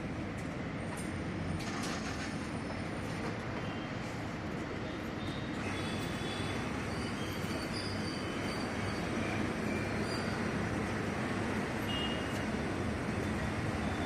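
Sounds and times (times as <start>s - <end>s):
mechanical background noise: 0.0s - 14.0s.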